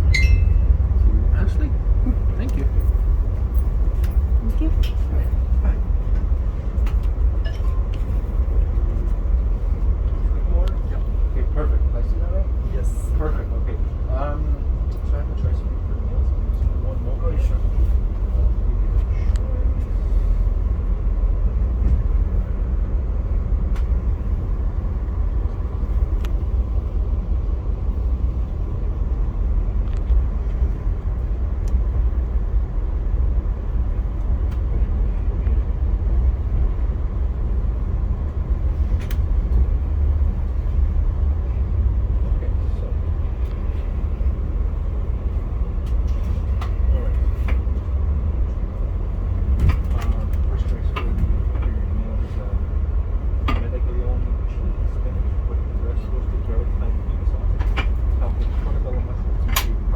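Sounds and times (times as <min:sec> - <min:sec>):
passenger train rumbling: 0:00.0 - 0:59.9.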